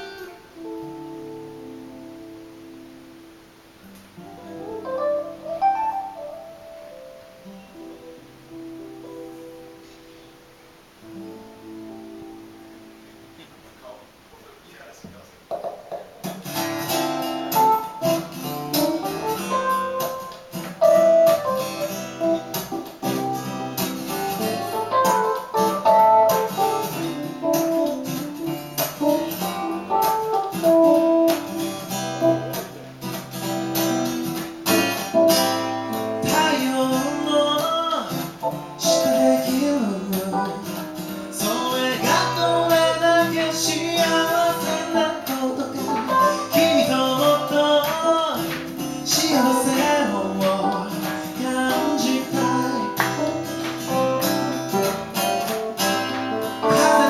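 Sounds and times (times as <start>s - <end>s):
acoustic guitar playing: 0.0s - 14.4s, 15.4s - 57.0s.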